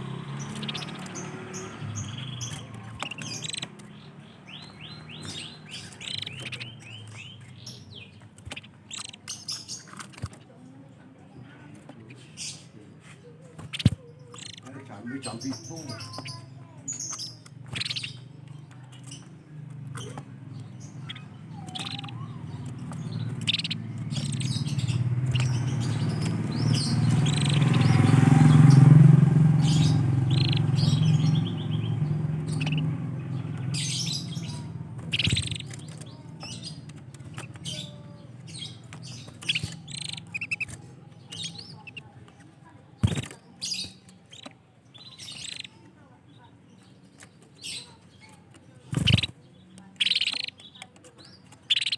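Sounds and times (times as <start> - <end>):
canaries chirping: 0.0 - 51.9.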